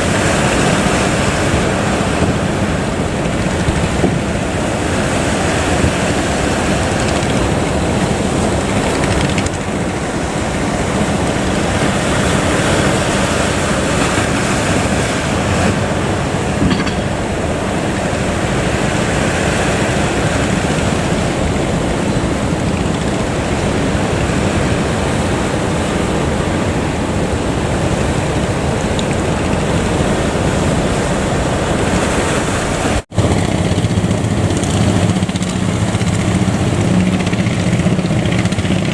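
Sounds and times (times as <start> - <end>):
low engine drone: 0.0 - 29.0, 33.1 - 38.9
surf roaring: 0.0 - 38.9
wind buffeting microphone: 0.0 - 38.9.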